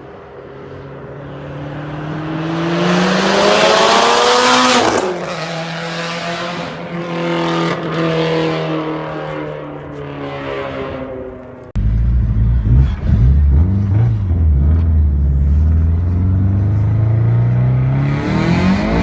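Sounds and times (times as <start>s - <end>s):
car engine accelerating hard: 1.2s - 19.0s.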